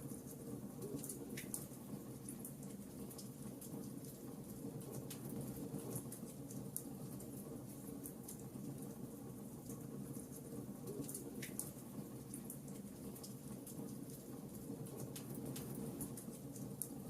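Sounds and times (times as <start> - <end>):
wood fire crackling: 0.1 - 17.0.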